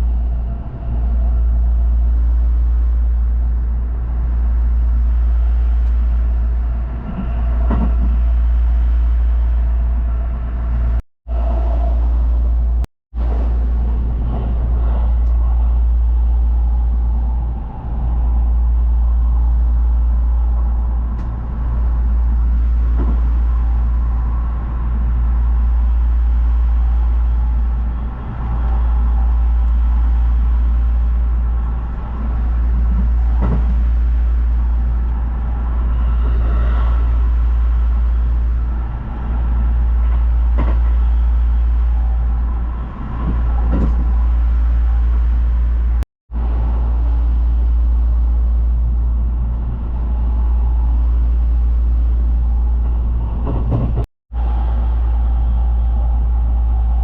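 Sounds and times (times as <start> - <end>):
moving vehicle rumble: 0.0 - 57.0.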